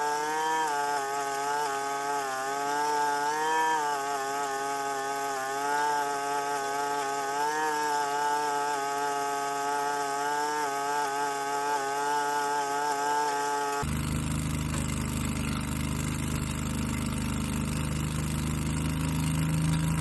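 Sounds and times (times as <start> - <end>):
leaf vacuum engine running: 0.0 - 20.0.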